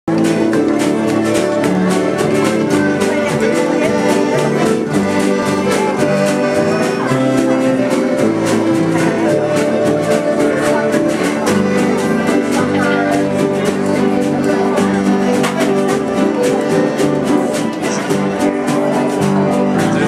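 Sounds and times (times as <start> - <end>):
accordion: 0.1 - 20.0
acoustic guitar: 0.1 - 20.0
drum kit: 0.1 - 20.0
fiddle: 0.1 - 20.0
upright bass: 0.1 - 20.0.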